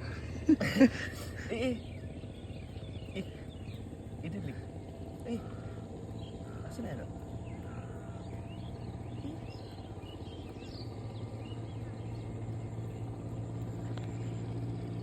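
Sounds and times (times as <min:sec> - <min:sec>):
low motor hum: 0:00.0 - 0:15.0
faint bird chirps: 0:01.4 - 0:15.0.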